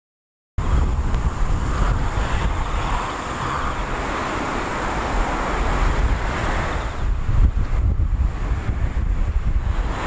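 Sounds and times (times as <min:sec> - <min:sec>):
distant airport noise hiss: 0:00.6 - 0:10.0
wind buffeting microphone: 0:00.6 - 0:10.0.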